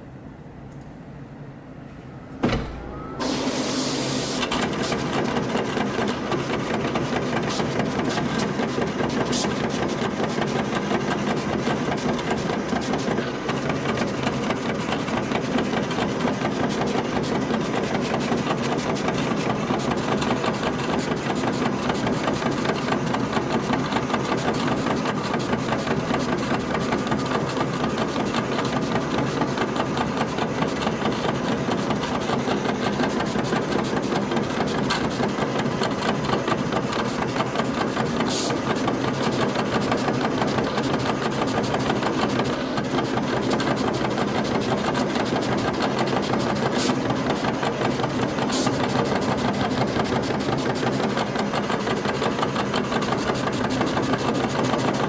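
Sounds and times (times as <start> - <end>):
cutting plotter motors buzzing: 2.4 - 55.0.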